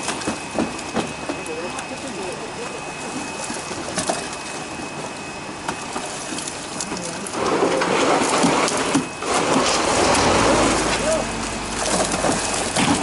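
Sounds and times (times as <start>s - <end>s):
fish thrashing and splashing water: 0.0s - 13.0s.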